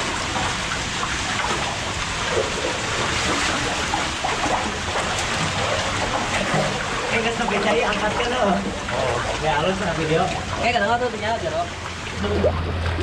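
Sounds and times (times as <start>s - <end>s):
people wading through water: 0.0s - 13.0s
water rushing in culvert: 0.0s - 13.0s.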